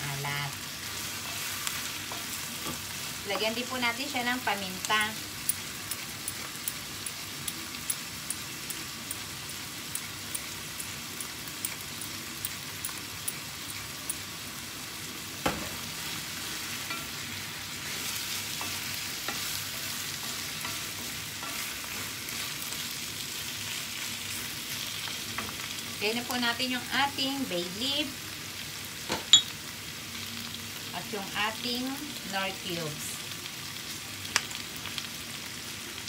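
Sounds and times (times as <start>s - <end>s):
chicken sizzling in a pan: 0.0s - 36.0s.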